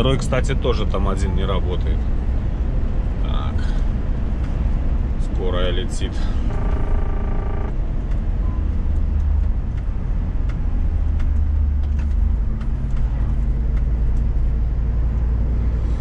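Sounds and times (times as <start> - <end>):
diesel engine drone: 0.0 - 16.0
road noise: 0.0 - 16.0.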